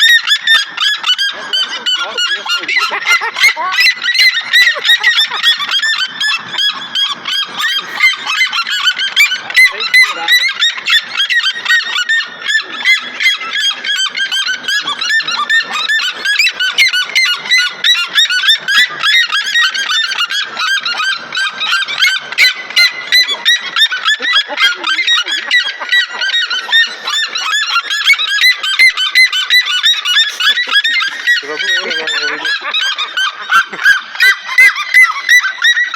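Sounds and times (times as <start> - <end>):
birds yelping calls: 0.0 - 35.9.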